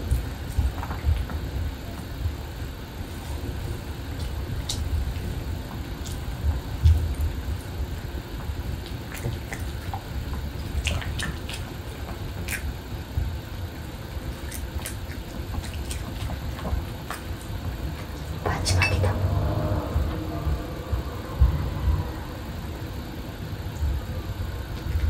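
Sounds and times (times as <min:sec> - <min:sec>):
dogs chewing: 0:00.0 - 0:21.6
steady low rumble: 0:00.0 - 0:25.0.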